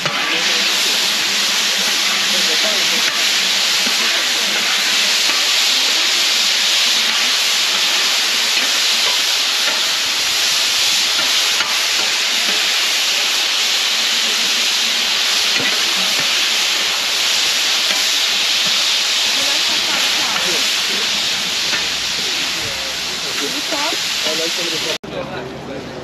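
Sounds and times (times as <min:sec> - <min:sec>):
beef sizzling on griddle: 0:00.0 - 0:25.0.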